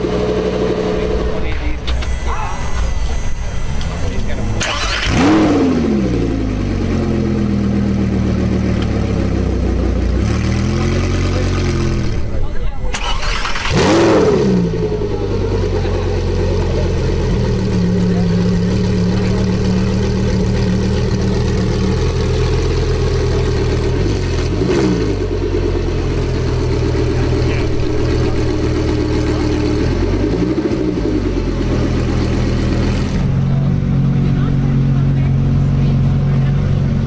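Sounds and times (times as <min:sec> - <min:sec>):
sports car engine idling: 0:00.0 - 0:37.0.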